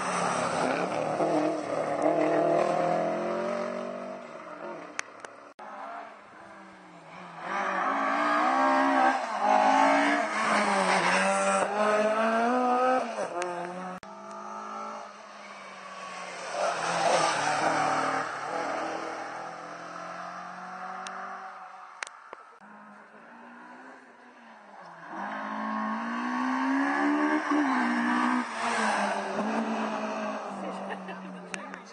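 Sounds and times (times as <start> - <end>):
rally car engine revving: 0.0 - 5.0, 5.6 - 21.7, 22.6 - 31.9
rally car accelerating: 0.0 - 21.8, 22.6 - 31.8.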